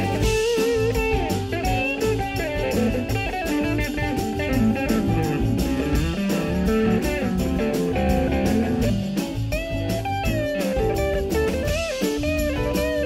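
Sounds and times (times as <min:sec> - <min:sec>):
bass guitar: 0:00.0 - 0:13.0
lead electric guitar bending notes: 0:00.0 - 0:13.0
steady drum beat: 0:00.0 - 0:13.0.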